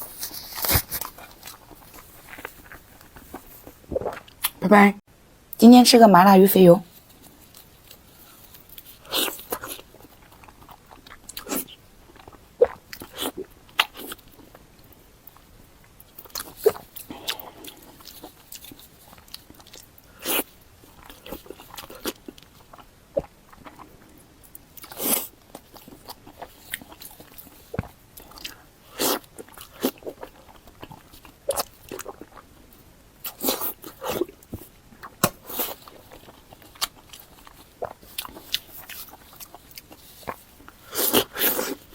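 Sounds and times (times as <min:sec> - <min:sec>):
person chewing and smacking: 0:00.1 - 0:04.6, 0:07.2 - 0:41.9.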